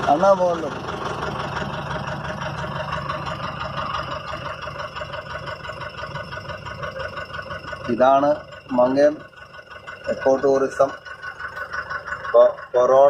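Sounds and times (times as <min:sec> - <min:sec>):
jeep engine running: 0:00.0 - 0:13.0.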